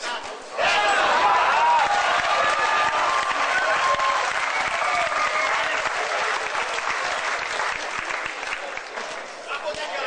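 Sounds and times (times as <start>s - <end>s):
spectators clapping: 0.9s - 9.8s.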